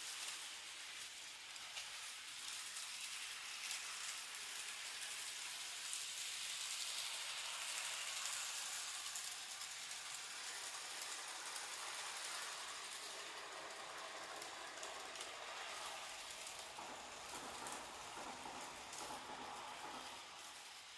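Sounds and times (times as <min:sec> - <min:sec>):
light clicking of train: 0:00.0 - 0:20.9
model train whirring: 0:00.0 - 0:20.9.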